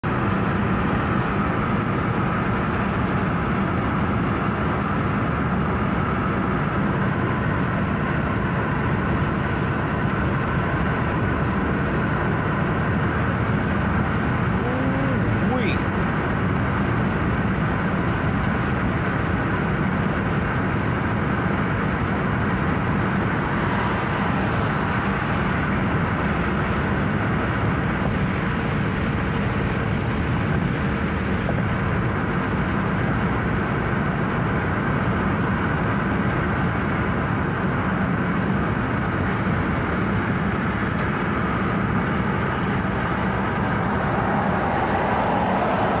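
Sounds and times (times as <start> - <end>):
car road noise at speed: 0.0 - 46.0.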